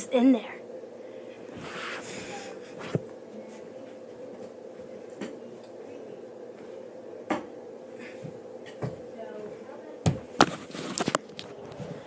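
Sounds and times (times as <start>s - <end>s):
steady room hum: 0.0s - 12.0s.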